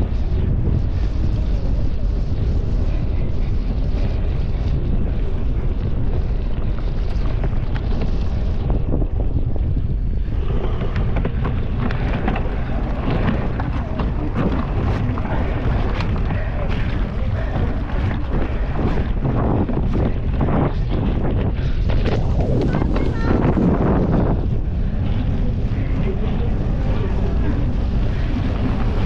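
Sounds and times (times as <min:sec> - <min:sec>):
wind rushing over microphone: 0:00.0 - 0:29.0
bike clattering over rough ground: 0:02.0 - 0:29.0.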